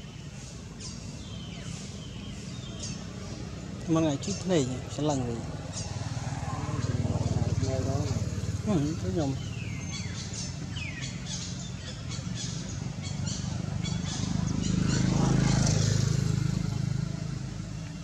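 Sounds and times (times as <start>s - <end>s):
vehicle engine passing: 0.3s - 18.0s.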